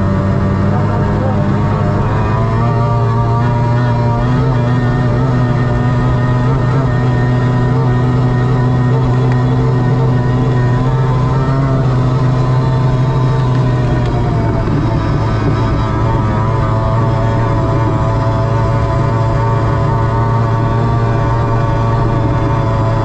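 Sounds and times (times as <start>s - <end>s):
outboard engine at high revs: 0.0s - 23.0s.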